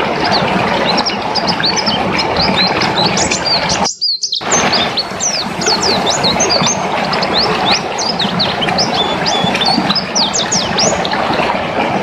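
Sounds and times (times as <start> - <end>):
constant noisy background: 0.0 - 12.0
bird singing chirps and whistles: 0.2 - 11.1.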